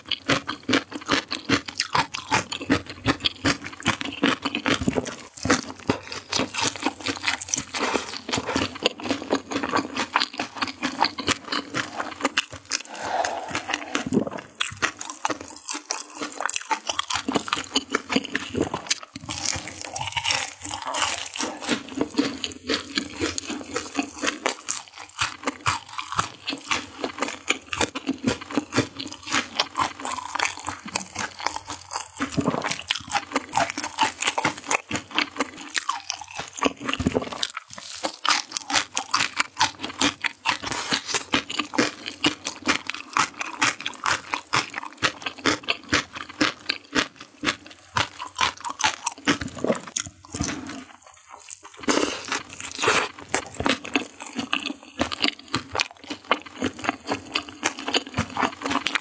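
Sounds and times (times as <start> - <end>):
crunching and chewing fried chicken: 0.0 - 59.0.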